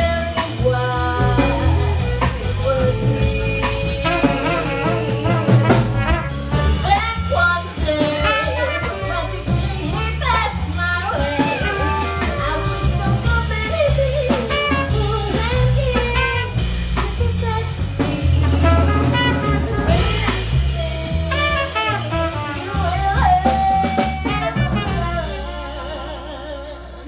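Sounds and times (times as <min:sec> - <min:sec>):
clarinet melody: 0:00.0 - 0:27.0
double bass line: 0:00.0 - 0:27.0
drum kit with cymbals: 0:00.0 - 0:27.0
trumpet melody: 0:00.0 - 0:27.0.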